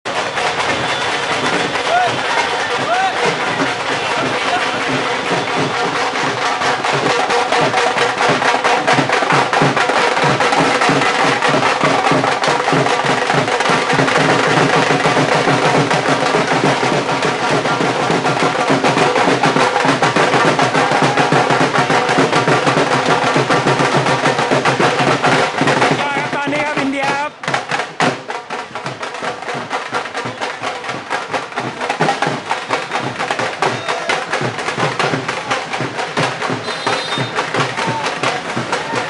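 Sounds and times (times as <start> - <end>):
street band drums beating fast rhythm: 0.0 - 39.0.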